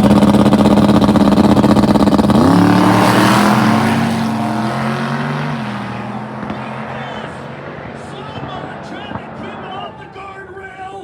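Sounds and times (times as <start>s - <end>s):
second engine note gliding up: 0.0s - 8.8s
drag racing car engine at full throttle: 0.0s - 10.1s.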